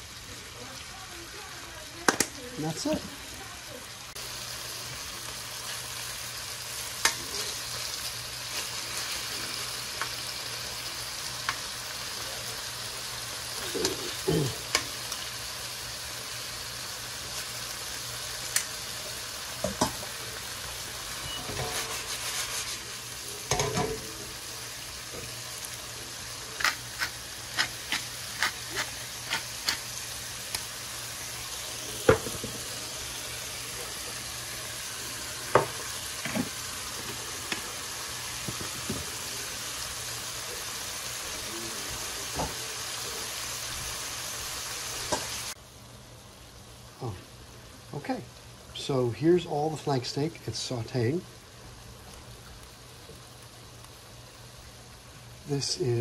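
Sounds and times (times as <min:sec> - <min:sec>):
steak sizzling in oil: 0:00.0 - 0:56.0.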